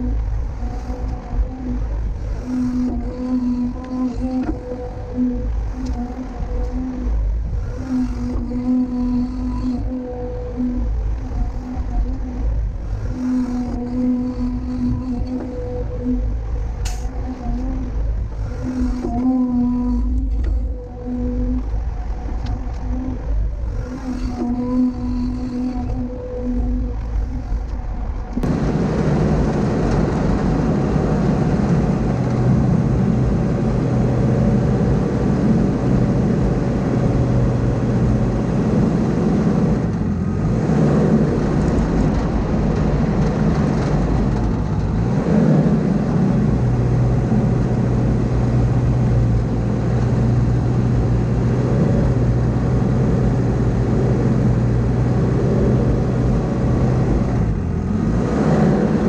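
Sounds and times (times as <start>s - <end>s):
diesel engine working: 0.0s - 59.0s.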